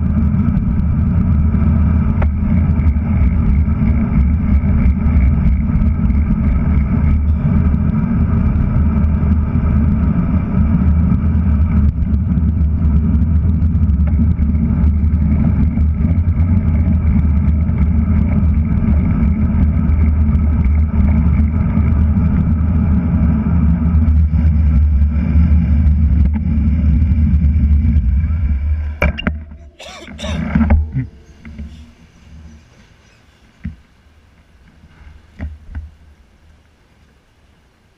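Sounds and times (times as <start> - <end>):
wind and road noise: 0.0 - 37.9.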